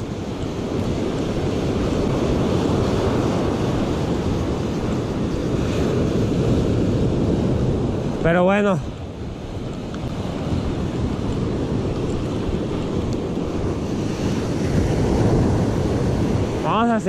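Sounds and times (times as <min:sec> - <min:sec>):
ocean surf on beach: 0:00.0 - 0:17.0
wind on microphone: 0:00.0 - 0:17.0.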